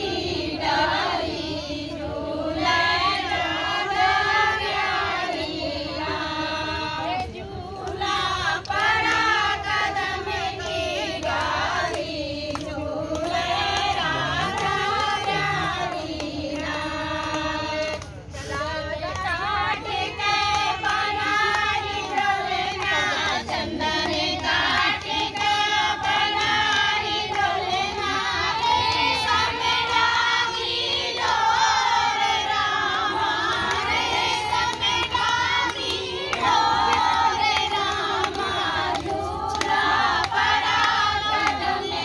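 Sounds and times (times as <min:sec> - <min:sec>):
high voices singing folk song: 0:00.0 - 0:42.0.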